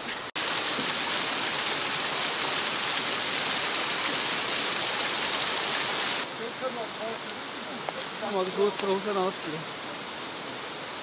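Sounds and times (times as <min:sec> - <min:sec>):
running water hissing: 0:00.3 - 0:11.0.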